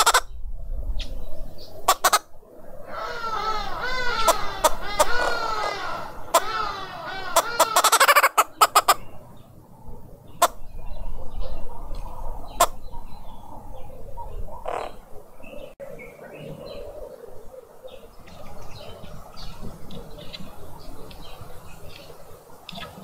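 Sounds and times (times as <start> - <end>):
birds cackling chatter: 0.0 - 0.4, 1.6 - 23.0.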